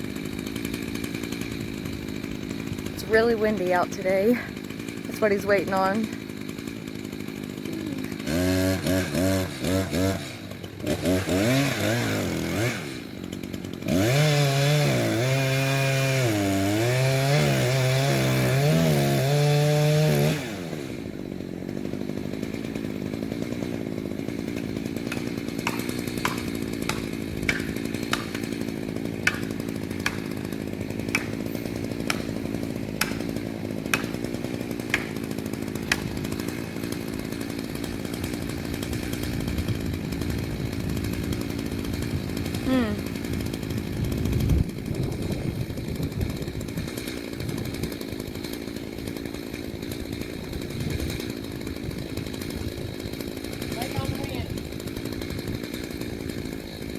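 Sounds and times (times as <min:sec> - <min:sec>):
chainsaw revving and cutting: 0:00.0 - 0:56.9.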